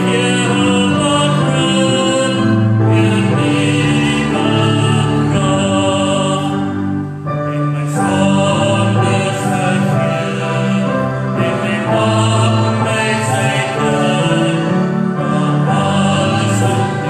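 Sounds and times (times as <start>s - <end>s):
instrumental accompaniment: 0.0s - 17.0s
people singing worship song: 0.0s - 17.0s.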